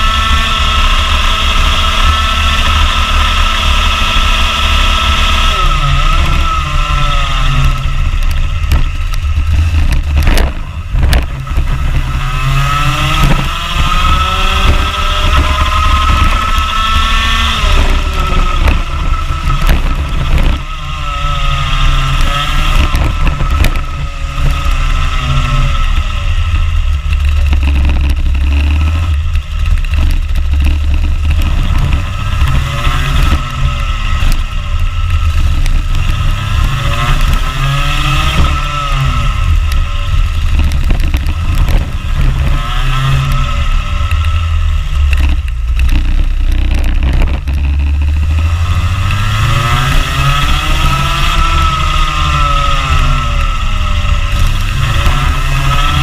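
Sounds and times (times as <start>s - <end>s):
heavy low rumble: 0.0s - 56.0s
kart engine revving: 0.0s - 56.0s.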